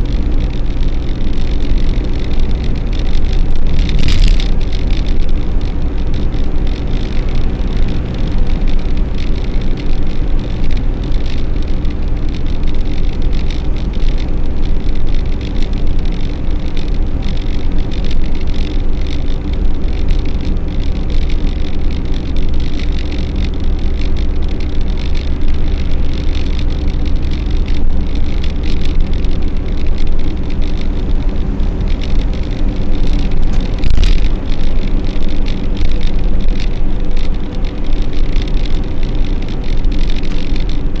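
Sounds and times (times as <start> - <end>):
small rattles and clicks: 0.0 - 41.0
vehicle road and engine noise: 0.0 - 41.0.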